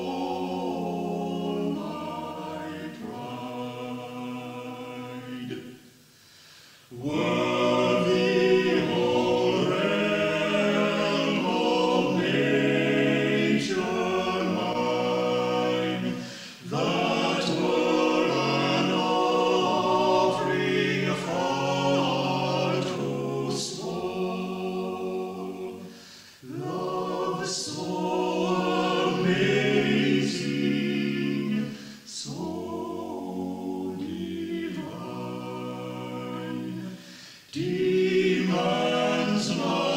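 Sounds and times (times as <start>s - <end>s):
choir singing unaccompanied: 0.0s - 6.0s, 6.9s - 39.9s.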